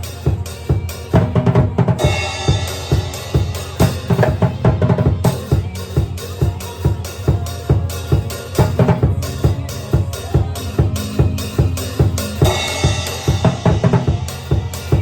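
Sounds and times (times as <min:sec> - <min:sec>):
drum kit playing: 0:00.0 - 0:15.0
heavy metal guitars and keys: 0:00.0 - 0:15.0.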